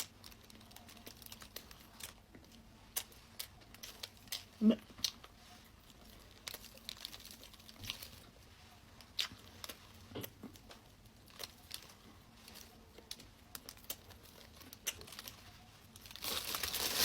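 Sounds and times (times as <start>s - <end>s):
clicks and crinkles of eating bread: 0.0s - 17.0s.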